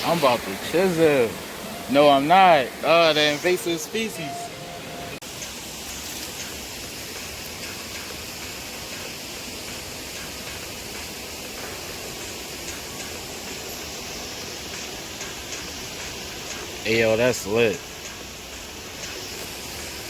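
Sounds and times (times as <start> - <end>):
waterfall rushing and splashing: 0.0 - 20.0.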